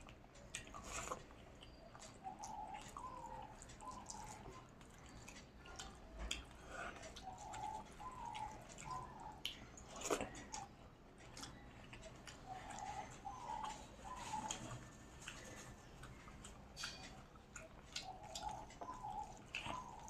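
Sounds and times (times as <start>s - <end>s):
lip-smacking clicks: 0.0s - 13.8s, 14.4s - 20.0s
soft wet chewing: 0.0s - 20.0s.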